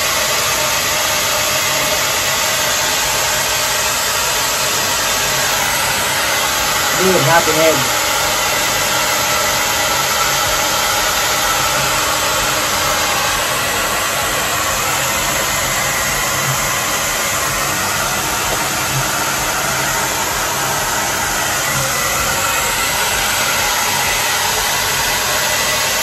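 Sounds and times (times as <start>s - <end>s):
hair dryer blowing air: 0.0s - 26.0s.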